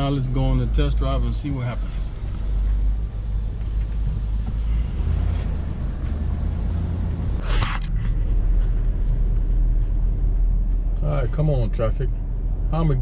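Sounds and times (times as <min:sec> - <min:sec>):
car driving drone from inside: 0:00.0 - 0:13.0.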